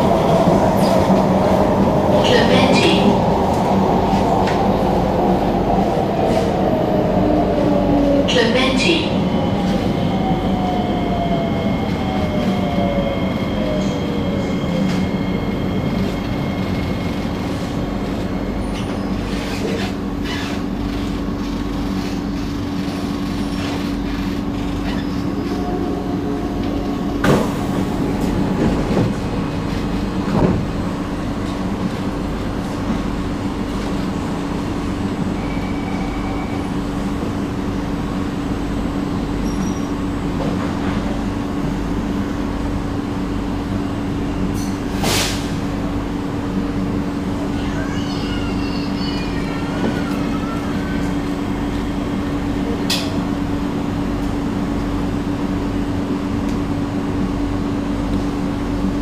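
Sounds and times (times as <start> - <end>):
train electric hum: 0.0 - 59.0.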